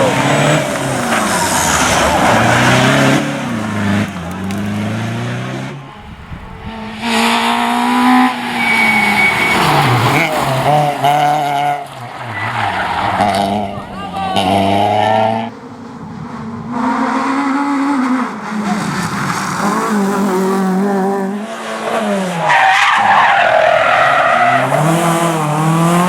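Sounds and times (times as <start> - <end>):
rally car engines revving: 0.0 - 26.0
tyres skidding: 0.0 - 26.0.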